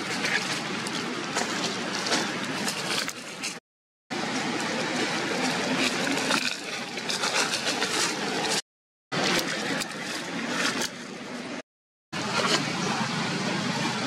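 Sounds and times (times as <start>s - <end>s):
outdoor noise: 0.0s - 14.0s.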